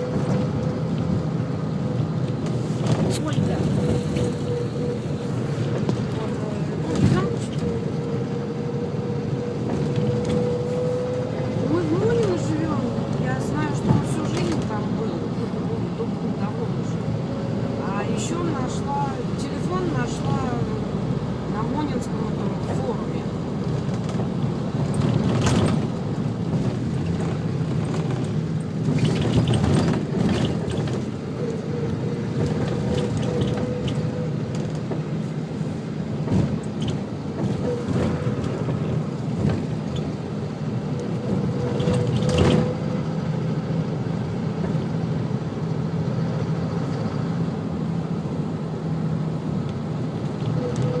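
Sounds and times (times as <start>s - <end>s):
low engine hum: 0.0s - 51.0s.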